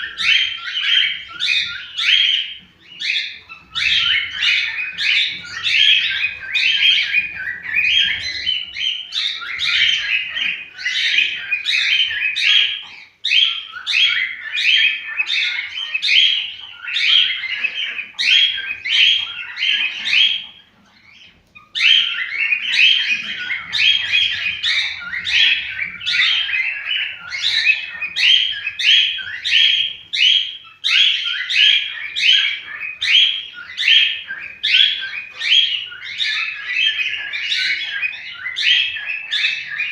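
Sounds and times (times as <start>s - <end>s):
cockatiels chirping and singing: 0.0s - 39.9s.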